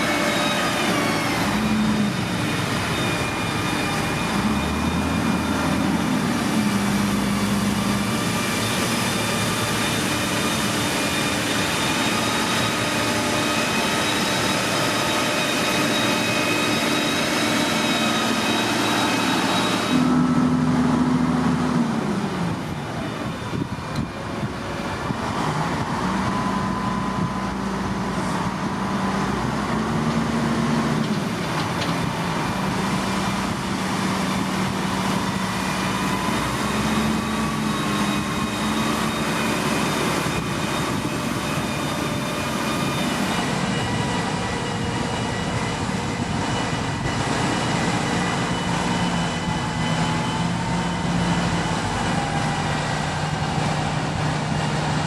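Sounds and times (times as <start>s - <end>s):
diesel machinery running: 0.0s - 55.0s
machine engine rising and falling: 0.0s - 55.0s.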